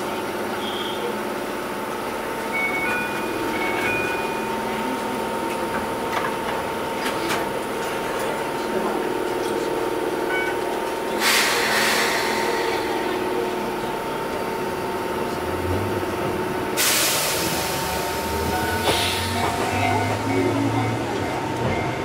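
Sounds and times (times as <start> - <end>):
train pulling away low hum: 0.0 - 22.0.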